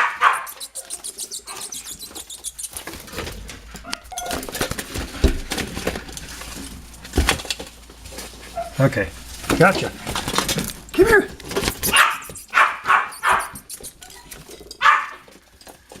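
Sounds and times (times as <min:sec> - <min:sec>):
rustles and knocks: 0:01.6 - 0:16.0.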